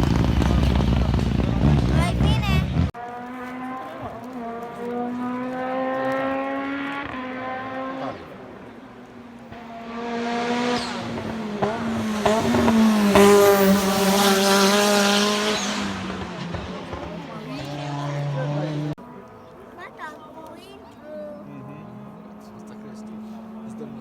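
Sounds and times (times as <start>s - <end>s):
race car engine revving: 0.0s - 19.7s, 20.7s - 24.0s.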